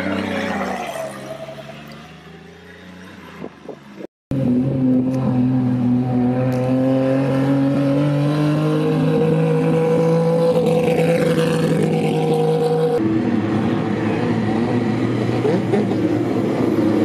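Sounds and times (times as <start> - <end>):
loud car engine approaching: 0.0 - 17.0.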